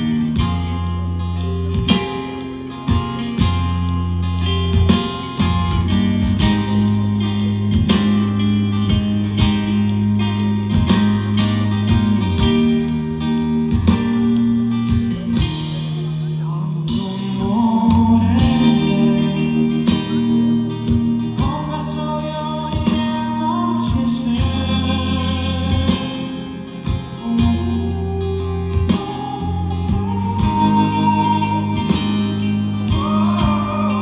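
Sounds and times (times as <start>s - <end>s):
bass guitar: 0.0s - 34.0s
drums at a steady beat: 0.0s - 34.0s
electric guitar: 0.0s - 34.0s.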